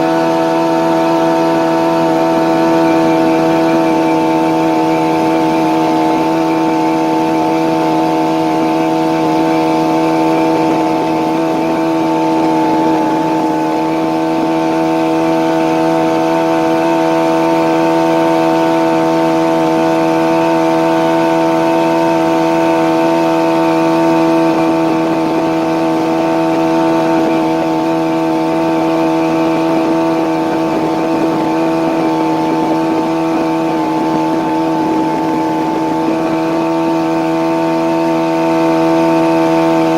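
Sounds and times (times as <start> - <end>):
outboard boat motor running: 0.0 - 39.9.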